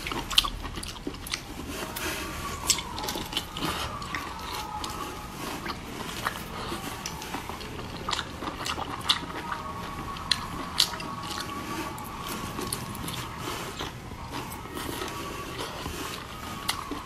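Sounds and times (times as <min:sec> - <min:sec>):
lip smacking: 0:00.0 - 0:17.0
wet chewing: 0:00.0 - 0:17.0.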